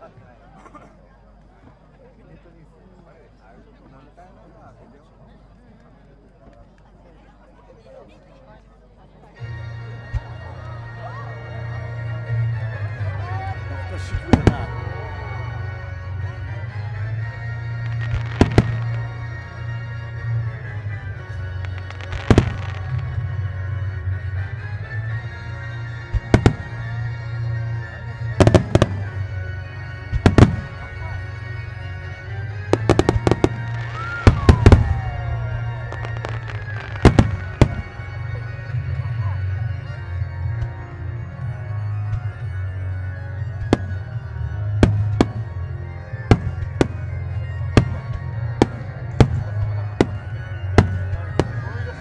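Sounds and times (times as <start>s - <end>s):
music: 6.4s - 52.0s.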